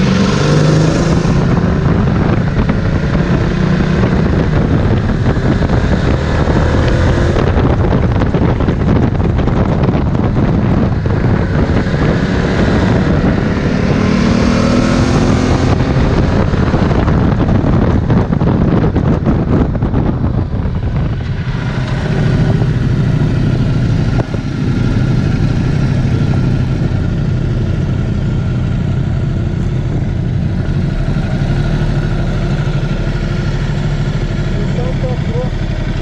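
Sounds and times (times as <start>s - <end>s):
motorcycle engine: 0.0s - 36.0s
wind rushing over microphone: 0.0s - 36.0s.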